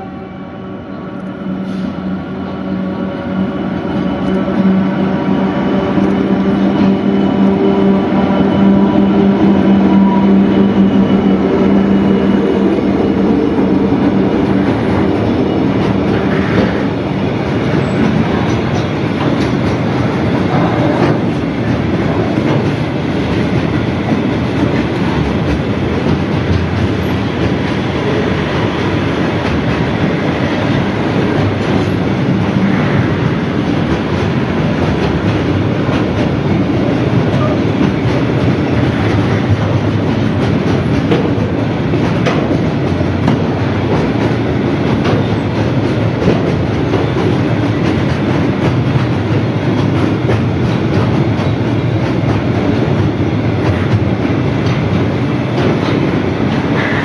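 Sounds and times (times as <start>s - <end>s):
diesel locomotive engine hum: 0.0s - 57.0s.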